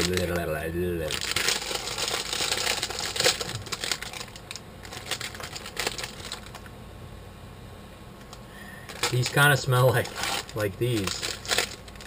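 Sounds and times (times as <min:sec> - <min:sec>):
plastic packet crinkling: 0:00.0 - 0:06.7, 0:08.9 - 0:12.0.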